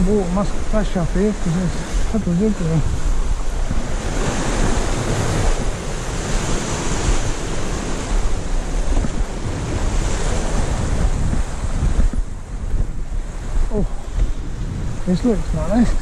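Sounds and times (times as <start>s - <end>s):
surf breaking on rocks: 0.0s - 16.0s
wind buffeting microphone: 0.0s - 16.0s.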